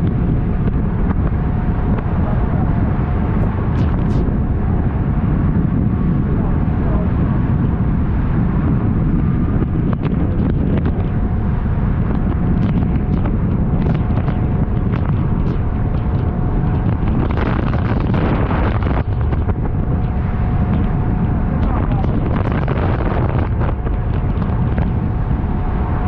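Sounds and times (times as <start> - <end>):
faint engine whine: 0.0 - 26.0
motorboat through choppy waves: 0.0 - 26.0
wind buffeting microphone: 0.0 - 26.0.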